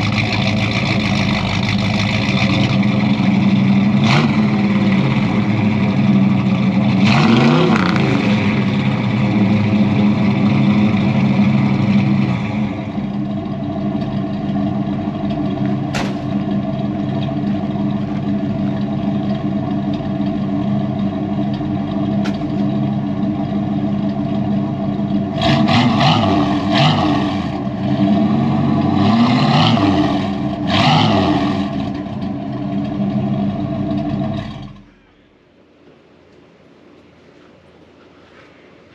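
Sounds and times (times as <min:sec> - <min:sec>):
truck engine idling and revving: 0:00.0 - 0:35.2.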